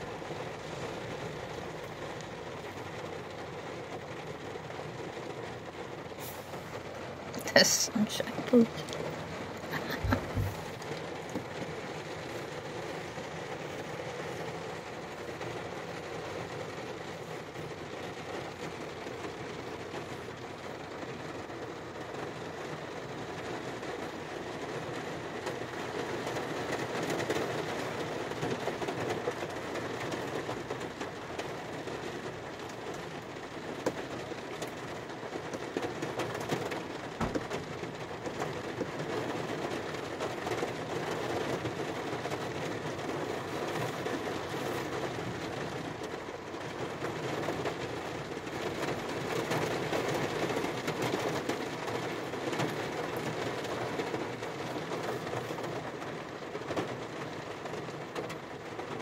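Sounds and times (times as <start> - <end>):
rain on car roof: 0.0 - 59.0.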